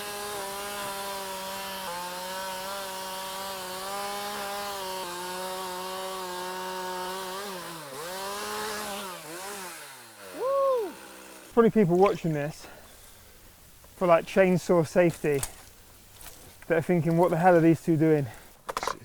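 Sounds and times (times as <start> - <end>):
chainsaw cutting wood: 0.0 - 14.0, 15.1 - 17.7.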